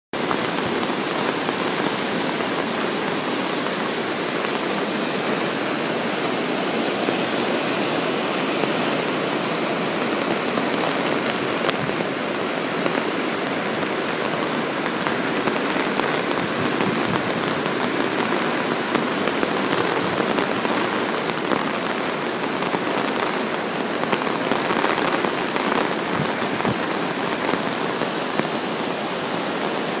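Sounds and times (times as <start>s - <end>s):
whitewater rushing down spillway: 0.2s - 30.0s.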